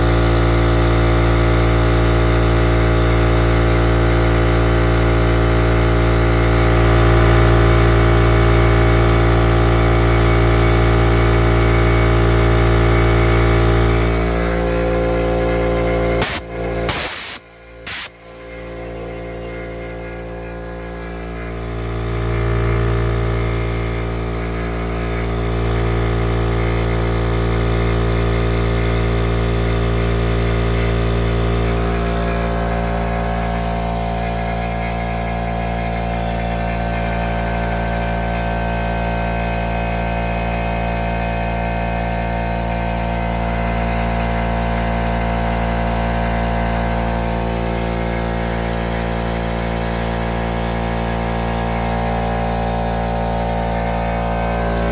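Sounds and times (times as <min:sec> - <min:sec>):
air compressor humming: 0:00.0 - 0:54.9.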